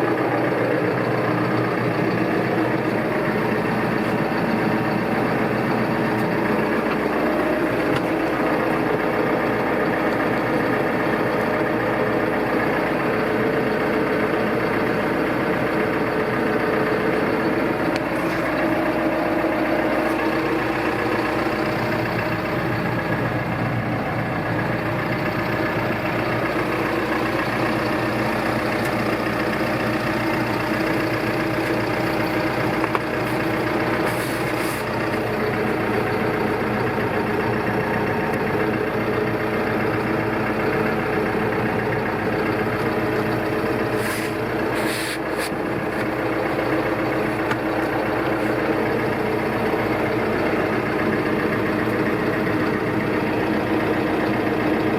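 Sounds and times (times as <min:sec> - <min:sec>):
diesel tractor engine idling: 0:00.0 - 0:54.9.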